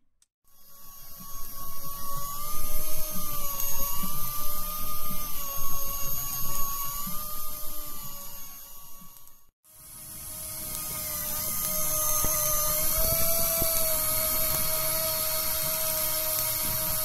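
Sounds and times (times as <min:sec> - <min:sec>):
fishing reel motor whining: 0:00.5 - 0:17.0.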